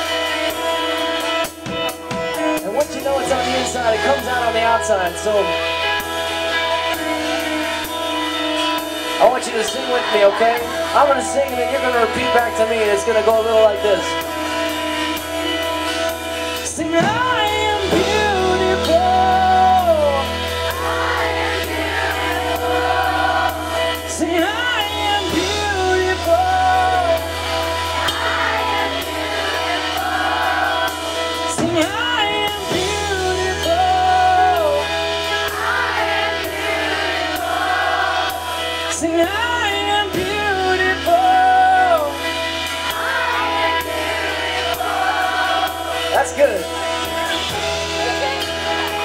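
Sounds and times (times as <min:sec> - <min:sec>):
audience singing: 0:00.0 - 0:12.7, 0:13.7 - 0:49.0
held bass: 0:00.0 - 0:49.0
lead singer singing: 0:00.0 - 0:49.0.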